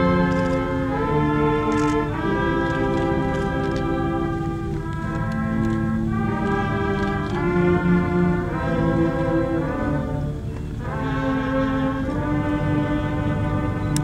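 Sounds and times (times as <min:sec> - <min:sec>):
slow orchestral music: 0:00.0 - 0:14.0.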